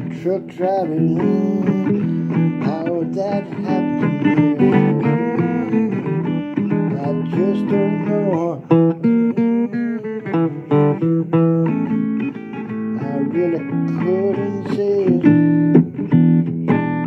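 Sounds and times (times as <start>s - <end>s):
blues guitar playing: 0.0s - 17.0s.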